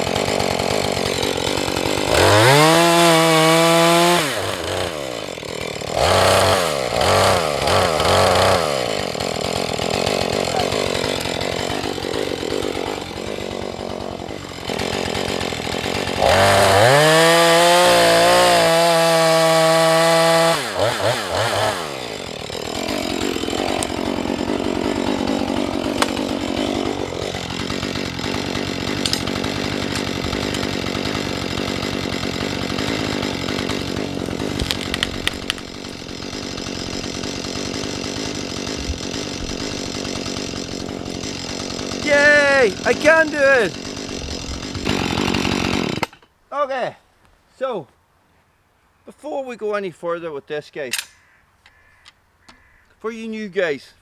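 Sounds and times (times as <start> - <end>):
chainsaw idling and revving: 0.0 - 46.3.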